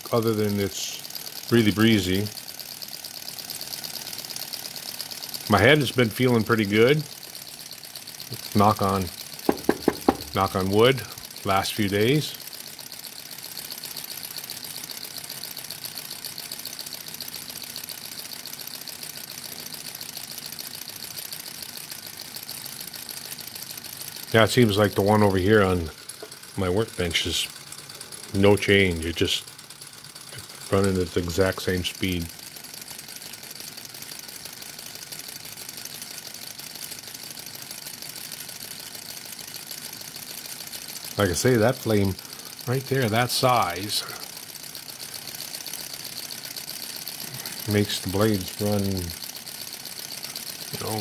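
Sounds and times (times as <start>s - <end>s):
engine mechanical ticking: 0.0s - 51.0s.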